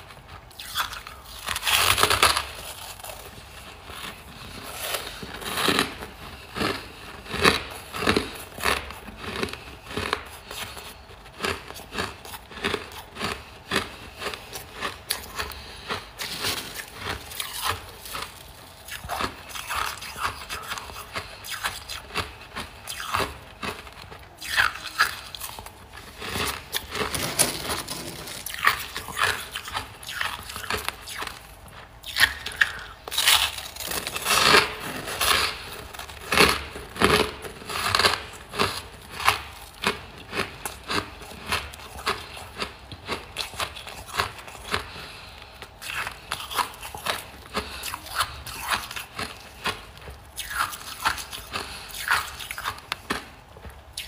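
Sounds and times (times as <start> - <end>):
frost chunks being chewed: 0.0 - 54.0.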